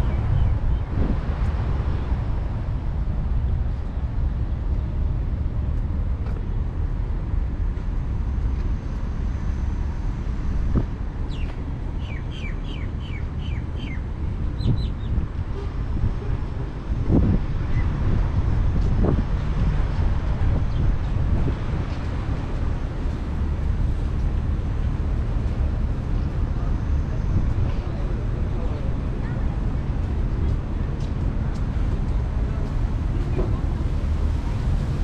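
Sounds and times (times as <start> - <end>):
city traffic: 0.0 - 35.0
wind on the microphone: 0.0 - 35.0.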